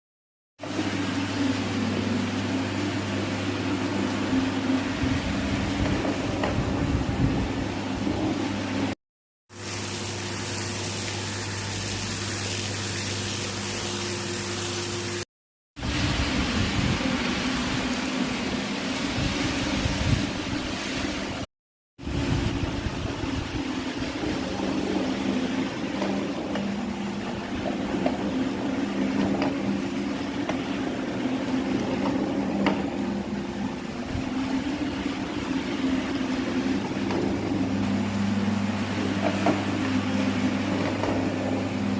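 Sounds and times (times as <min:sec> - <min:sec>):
carpet washing machine motor hum: 0:00.6 - 0:41.9.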